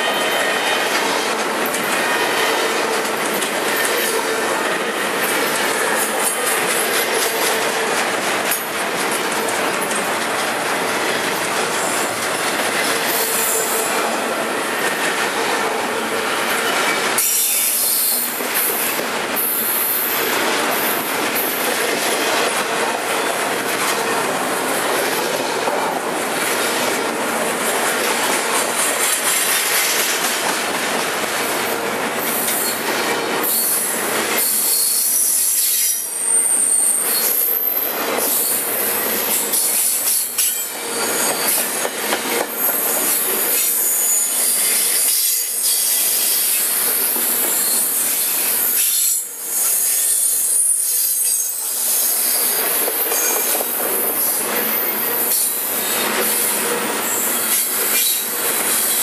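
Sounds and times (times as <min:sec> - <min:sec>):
steel wheels rushing on rail: 0:00.0 - 0:59.0.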